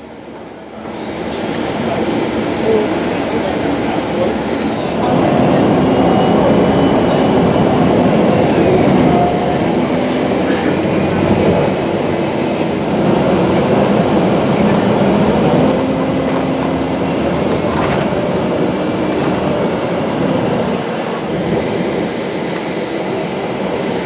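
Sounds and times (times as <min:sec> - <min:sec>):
bus engine and road noise: 0:00.0 - 0:24.0.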